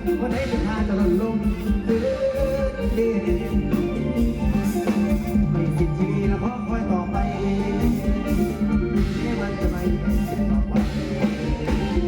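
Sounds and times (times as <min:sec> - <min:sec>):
drum beat: 0:00.0 - 0:12.0
guitar: 0:00.0 - 0:12.0
person singing: 0:00.0 - 0:12.0.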